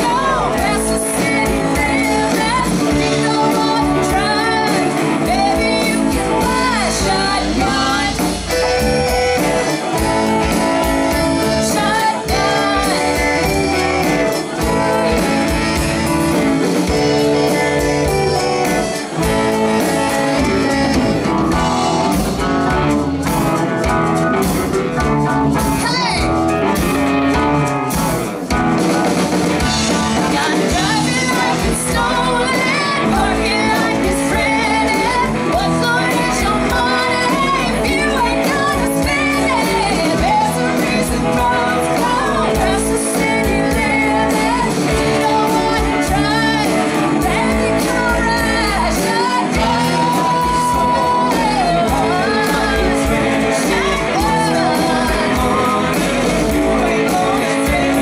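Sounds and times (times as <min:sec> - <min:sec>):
person singing: 0:00.0 - 0:27.1, 0:29.1 - 0:58.0
live rock band playing: 0:00.0 - 0:58.0.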